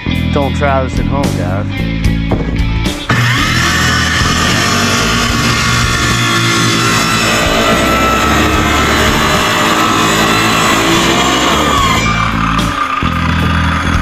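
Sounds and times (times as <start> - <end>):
rock music with guitar and bass: 0.0 - 14.0.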